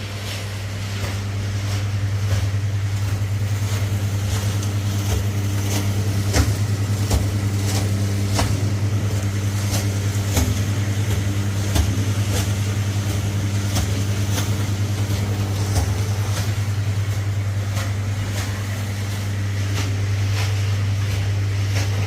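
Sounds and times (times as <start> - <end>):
motor humming with fast pulse: 0.0 - 22.0.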